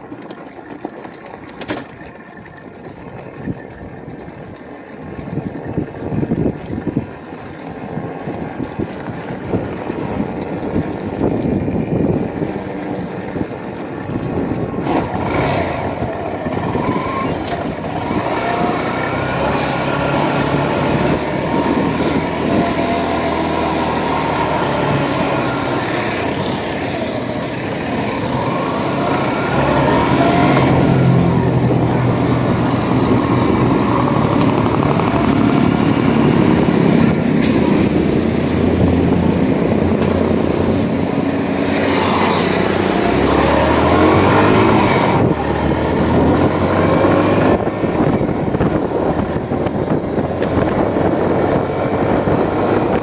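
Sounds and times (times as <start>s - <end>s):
motorcycle engine: 0.0s - 53.0s
wind rushing over microphone: 2.8s - 53.0s.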